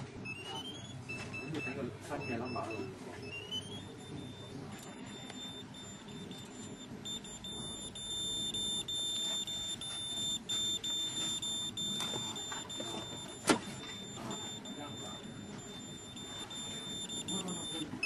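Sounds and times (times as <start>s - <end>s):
high-pitched reader beeping: 0.0s - 18.0s.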